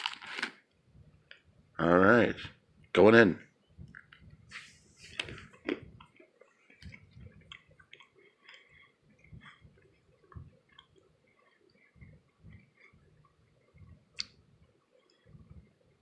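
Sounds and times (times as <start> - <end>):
person chewing crunchy peanuts: 0.0 - 0.7, 3.9 - 16.0.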